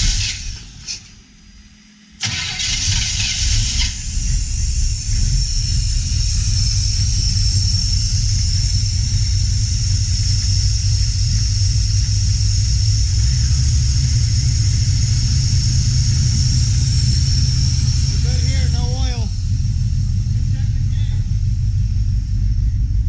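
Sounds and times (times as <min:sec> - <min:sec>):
car engine idling: 0:00.0 - 0:23.0
steady high whine: 0:00.0 - 0:23.0.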